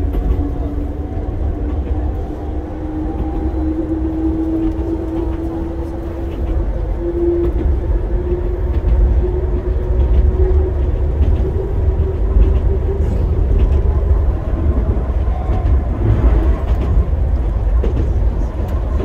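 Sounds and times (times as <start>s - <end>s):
train motor hum: 0.0s - 19.0s
wheels rumbling on rail: 0.0s - 19.0s.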